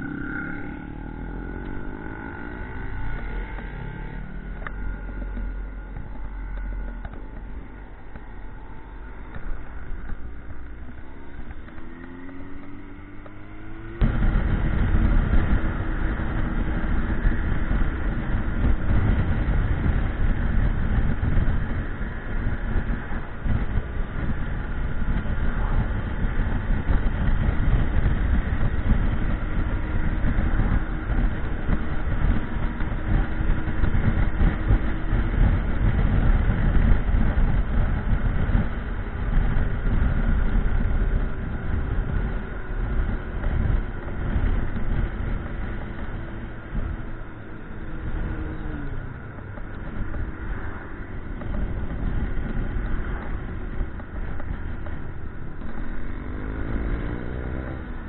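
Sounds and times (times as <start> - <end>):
loud wind noise: 0.0 - 58.0
motorcycle engine accelerating: 0.0 - 58.0.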